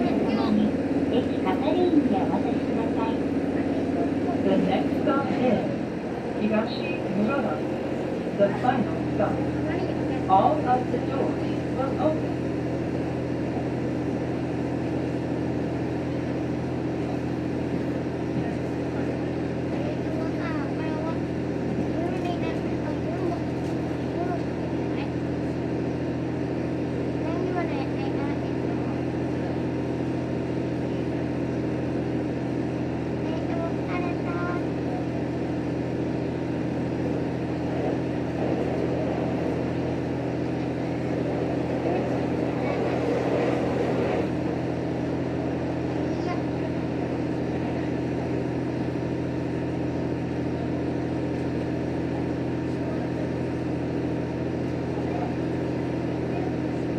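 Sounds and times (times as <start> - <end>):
railcar engine drone: 0.0 - 56.9
wheel-on-rail noise: 0.0 - 56.9.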